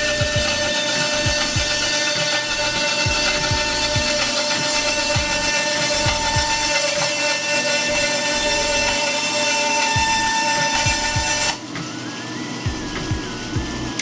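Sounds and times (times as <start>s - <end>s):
band saw cutting wood: 0.0s - 14.0s.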